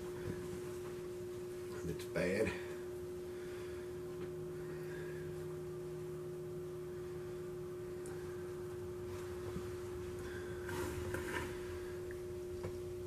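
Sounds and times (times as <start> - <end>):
steady tone hum: 0.0 - 13.0.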